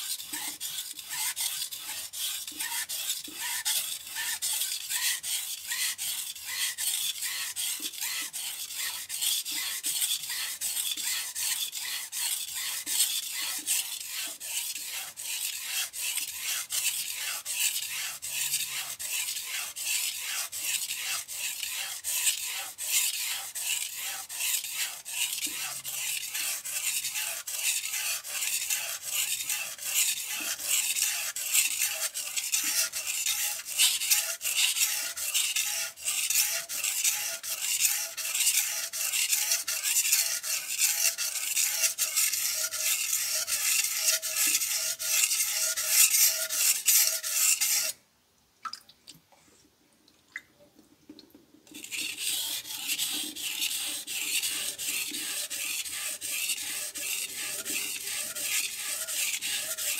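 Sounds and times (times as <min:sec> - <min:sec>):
knife stroking on whetstone: 0:00.0 - 0:48.0, 0:51.7 - 0:59.9.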